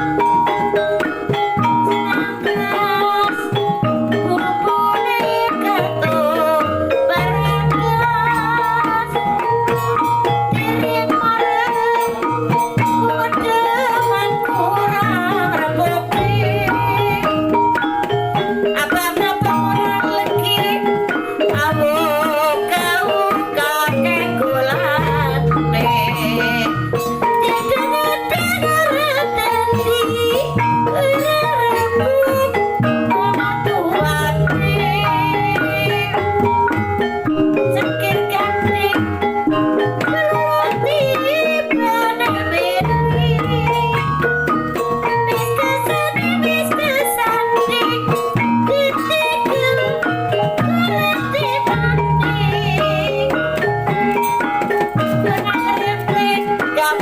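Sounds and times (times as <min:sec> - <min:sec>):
ornamented gamelan melody: 0:00.0 - 0:57.0.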